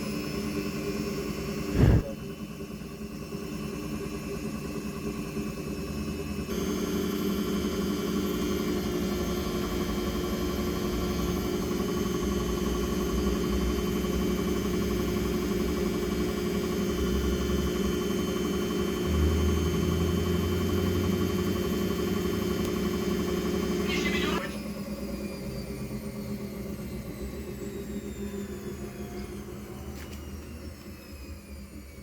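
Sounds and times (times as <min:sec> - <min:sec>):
washing machine motor hum: 0:04.3 - 0:32.0.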